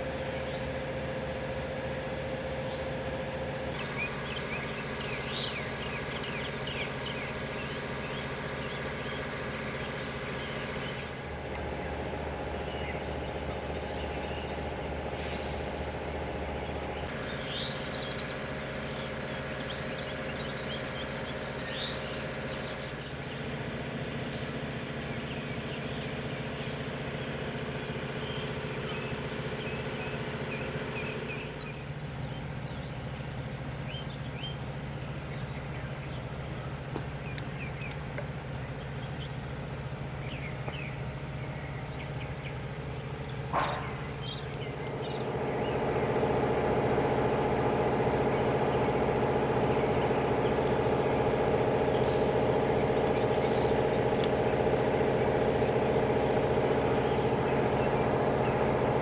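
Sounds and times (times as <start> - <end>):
birds chirping: 0.0 - 59.0
idling machine hum: 0.0 - 59.0.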